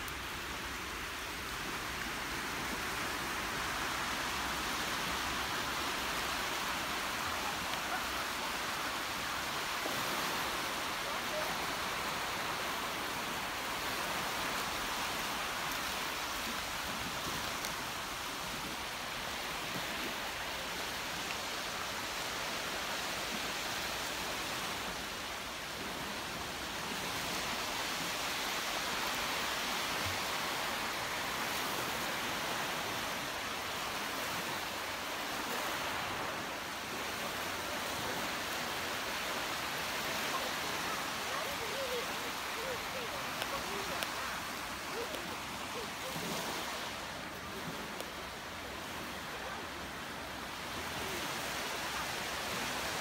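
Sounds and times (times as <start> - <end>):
small waves washing up cobbles: 0.1 - 53.0.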